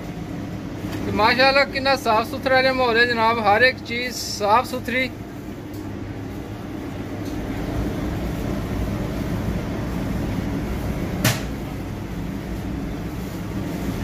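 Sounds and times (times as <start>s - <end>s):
kitchen equipment hum: 0.0s - 14.0s.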